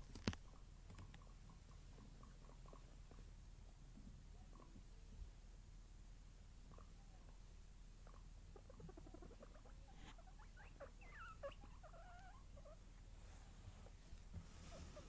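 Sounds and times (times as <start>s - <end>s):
guinea pigs squeaking and chirping: 0.0s - 4.8s, 6.5s - 15.0s.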